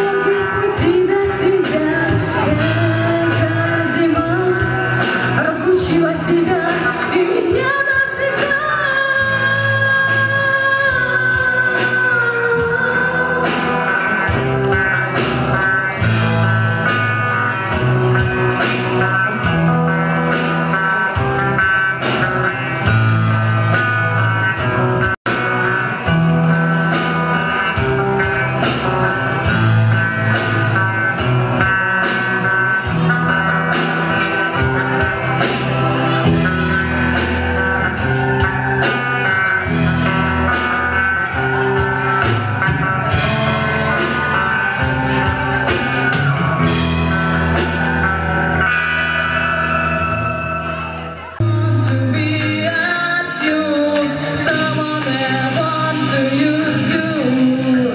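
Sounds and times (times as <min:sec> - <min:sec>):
rock band with singing: 0:00.0 - 0:57.9.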